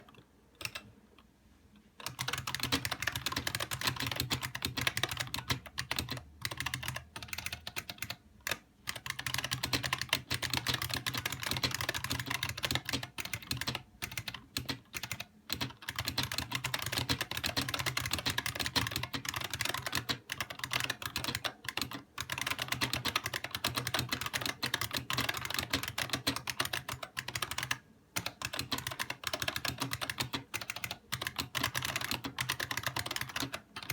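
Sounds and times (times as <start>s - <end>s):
keyboard keys clicking: 0.0s - 0.9s, 2.0s - 33.9s.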